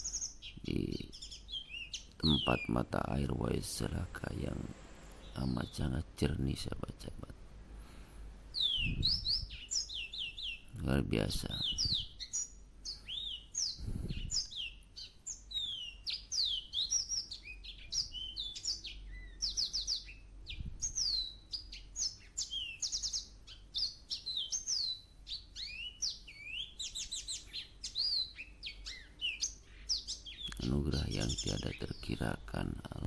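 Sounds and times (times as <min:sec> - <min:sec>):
songbirds calling: 0:00.0 - 0:33.0.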